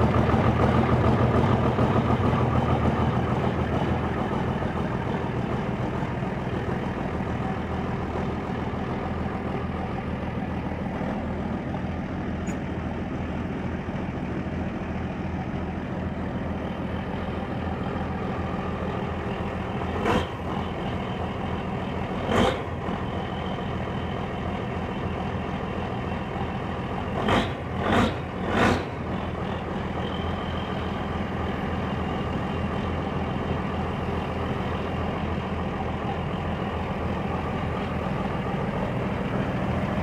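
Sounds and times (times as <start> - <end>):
diesel engine idling: 0.0 - 40.0.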